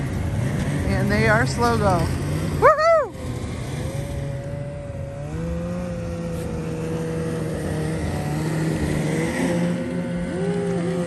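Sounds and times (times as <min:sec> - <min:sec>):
second snowmobile engine rising: 0:00.0 - 0:11.0
snowmobile engine drone: 0:00.0 - 0:11.0.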